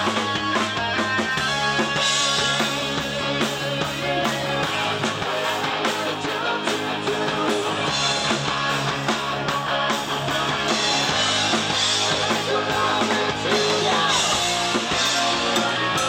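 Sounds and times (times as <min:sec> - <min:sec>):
bass guitar: 0:00.0 - 0:16.0
distorted electric guitar: 0:00.0 - 0:16.0
drum kit with cymbal crashes: 0:00.0 - 0:16.0.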